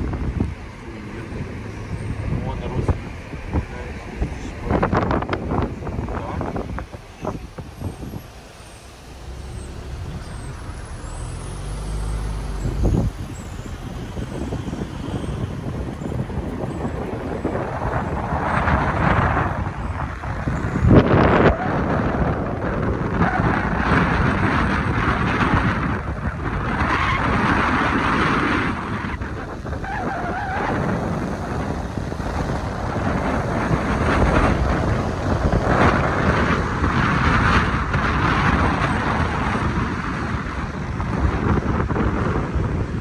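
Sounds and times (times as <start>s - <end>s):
road and traffic rumble: 0.0s - 43.0s
wind buffeting microphone: 0.0s - 43.0s.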